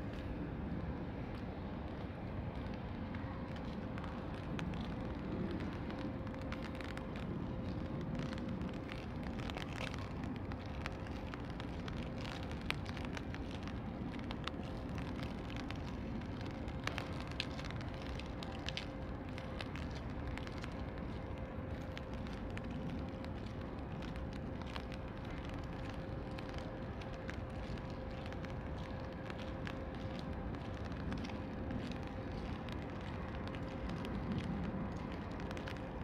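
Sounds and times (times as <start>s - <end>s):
low city rumble: 0.0s - 36.0s
steady rain falling: 0.0s - 36.0s
raindrops ticking close by: 0.1s - 36.0s.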